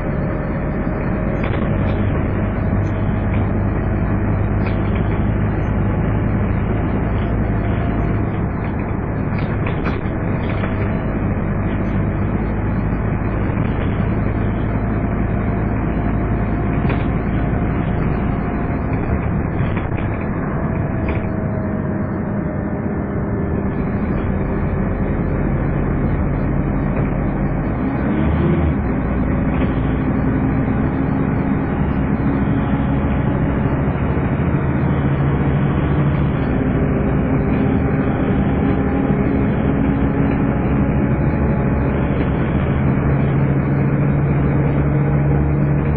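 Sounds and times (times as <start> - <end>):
bus engine whining: 0.0 - 45.9.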